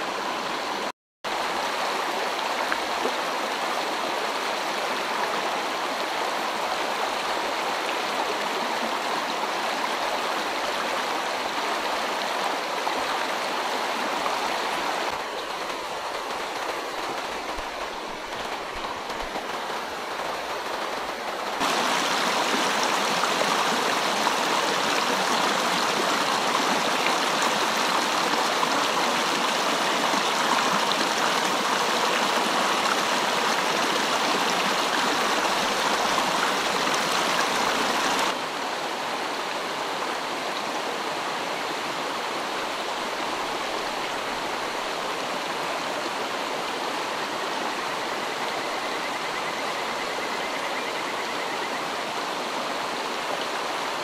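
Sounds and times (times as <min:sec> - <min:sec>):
shallow water babbling: 0:00.0 - 0:54.0
stream rushing over rocks: 0:00.0 - 0:54.0.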